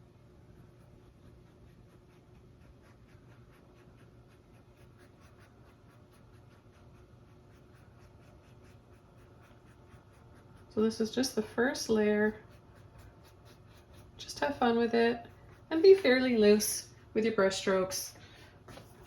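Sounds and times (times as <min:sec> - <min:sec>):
low room hum: 0:00.0 - 0:19.0
paintbrush strokes on canvas: 0:00.5 - 0:19.0.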